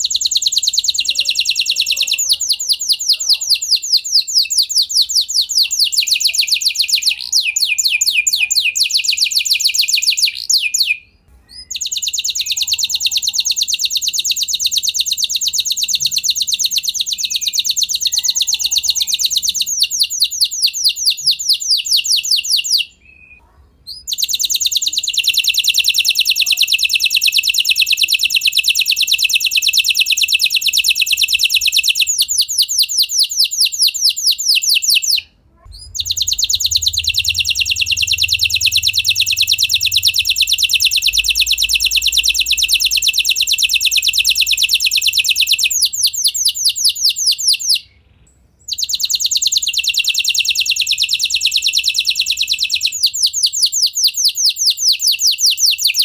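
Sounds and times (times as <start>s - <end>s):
canary singing fast trills: 0.0s - 56.0s.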